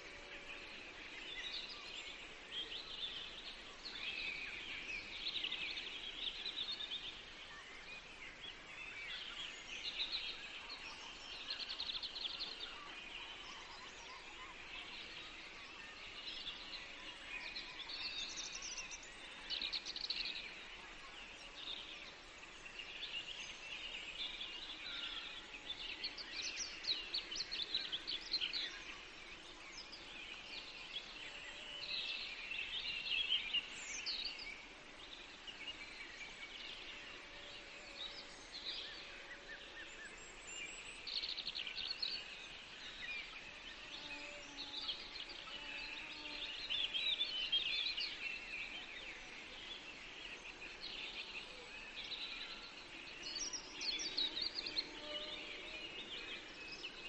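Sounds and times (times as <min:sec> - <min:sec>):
faint steady hiss: 0:00.0 - 0:57.0
songbirds chirping and trilling: 0:00.0 - 0:57.0.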